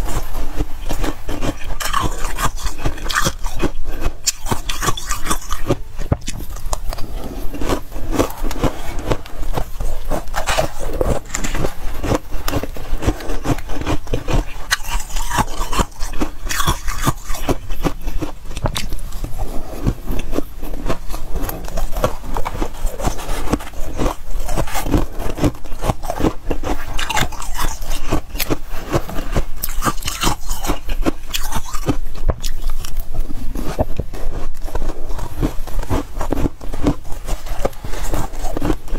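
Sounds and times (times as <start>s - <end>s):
crunching and chewing ice: 0.0s - 38.9s.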